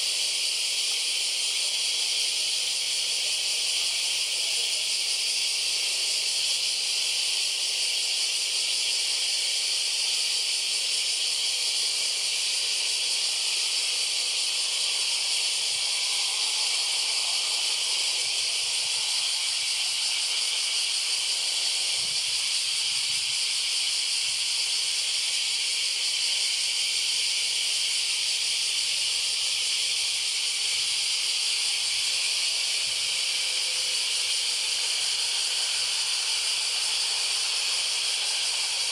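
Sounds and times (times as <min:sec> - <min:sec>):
cicada chorus drone: 0:00.0 - 0:38.9.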